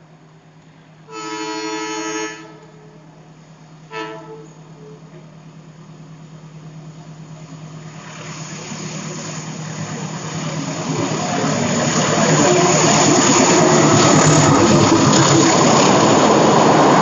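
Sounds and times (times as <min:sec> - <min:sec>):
train engine and wheel rumble: 0:00.0 - 0:17.0.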